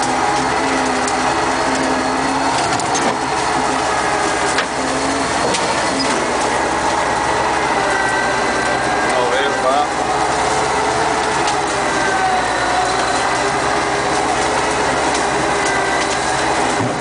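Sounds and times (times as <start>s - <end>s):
branches cracking: 0.0s - 17.0s
tractor diesel engine under load: 0.0s - 17.0s.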